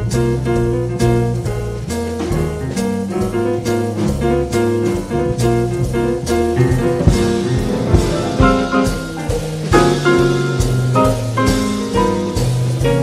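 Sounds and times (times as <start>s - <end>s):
deep bass line: 0.0s - 13.0s
drum kit: 0.0s - 13.0s
grand piano: 0.0s - 13.0s.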